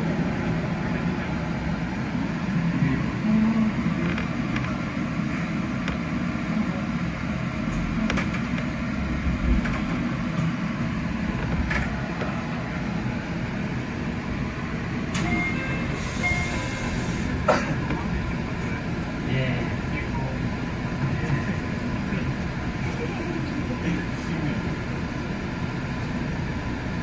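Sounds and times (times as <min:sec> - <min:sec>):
train cab hum and rumble: 0:00.0 - 0:27.0.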